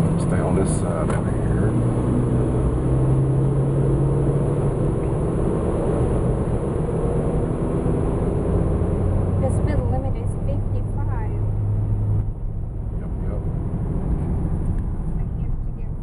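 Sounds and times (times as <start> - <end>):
car engine and tyres droning: 0.0 - 16.0.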